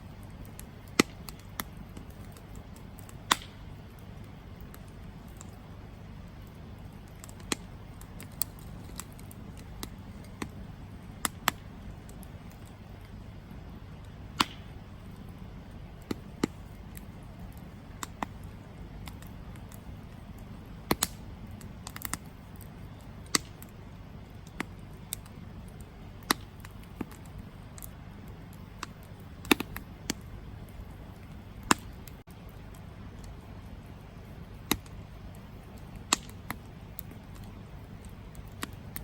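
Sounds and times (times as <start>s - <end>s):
campfire crackling and popping: 0.0s - 39.0s
low steady rumble: 0.0s - 39.0s.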